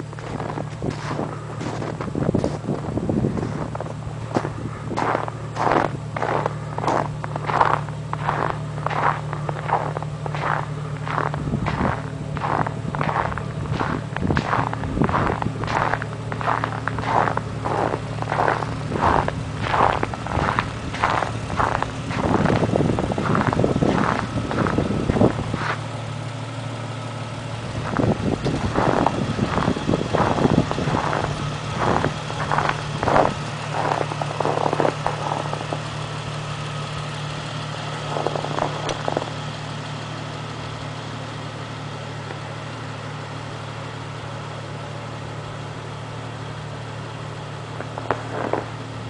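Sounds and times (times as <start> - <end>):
vehicle engine idling: 0.0 - 49.0.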